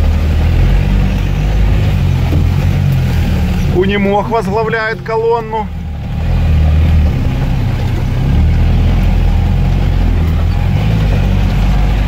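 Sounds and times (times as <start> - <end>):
truck engine at low revs: 0.0 - 12.0.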